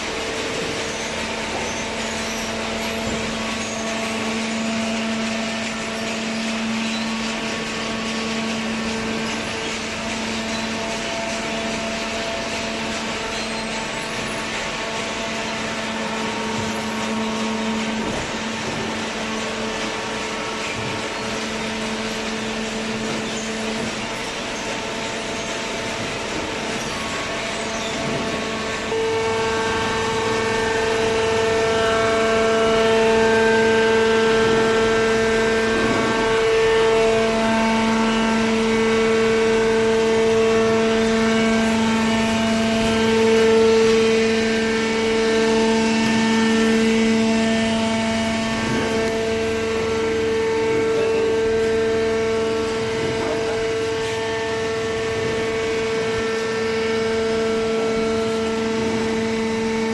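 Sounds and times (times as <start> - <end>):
hydraulic baler motor hum and whine: 0.0 - 59.9.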